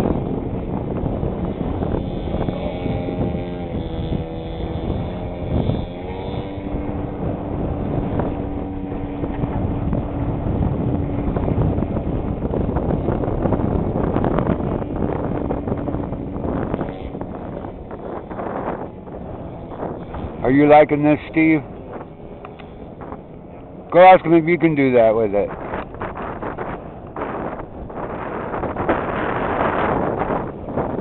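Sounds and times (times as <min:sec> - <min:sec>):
model plane engine running: 0:00.0 - 0:31.0
wind noise on microphone: 0:00.0 - 0:31.0.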